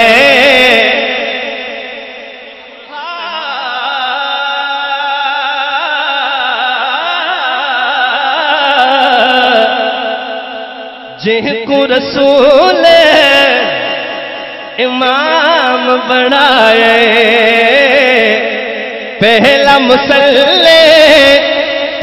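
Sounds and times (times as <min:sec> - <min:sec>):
man singing into microphone: 0:00.0 - 0:22.0.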